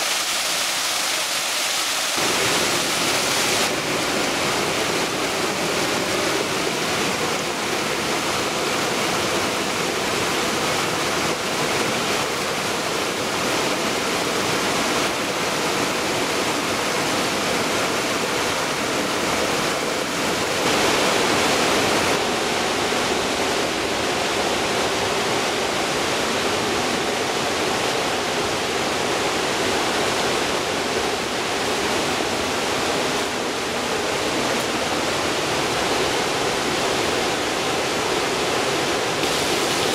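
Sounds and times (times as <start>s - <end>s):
water cascading over rocks: 0.0s - 39.9s.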